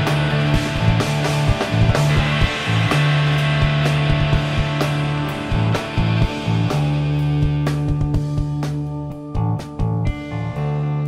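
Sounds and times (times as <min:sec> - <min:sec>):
indie rock band playing: 0:00.0 - 0:11.0.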